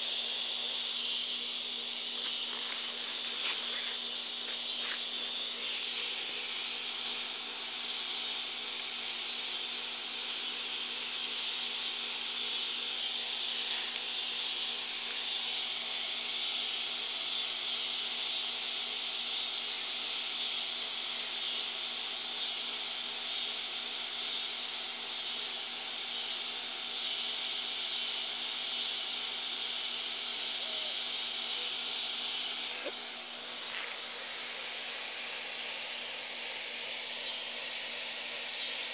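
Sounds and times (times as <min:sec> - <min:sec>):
insect chorus hissing: 0:00.0 - 0:38.9.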